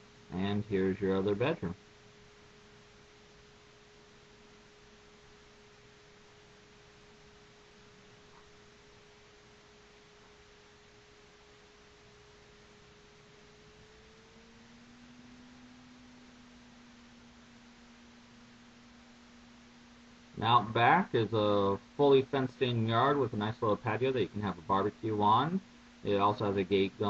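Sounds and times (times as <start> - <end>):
faint electrical hum tone: 0.0 - 27.0.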